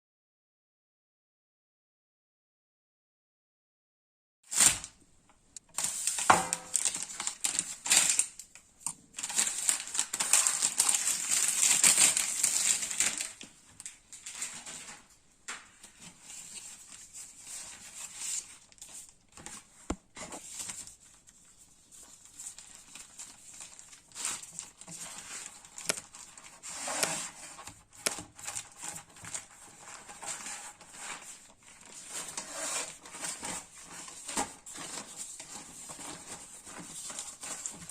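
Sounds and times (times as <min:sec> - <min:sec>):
packaging crinkling: 0:05.7 - 0:15.2, 0:16.2 - 0:37.9.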